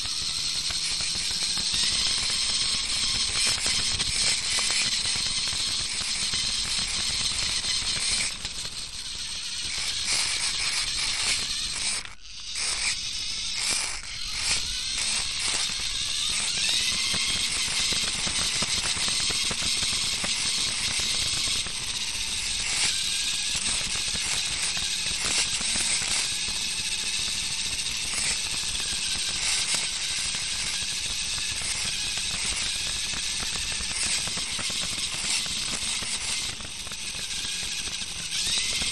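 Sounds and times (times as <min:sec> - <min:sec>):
rc car electric drive whirring: 0:00.0 - 0:38.9.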